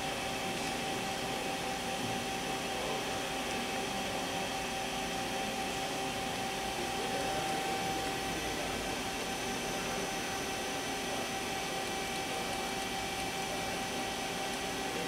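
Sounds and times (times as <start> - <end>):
machine hum with whine: 0.0 - 15.0.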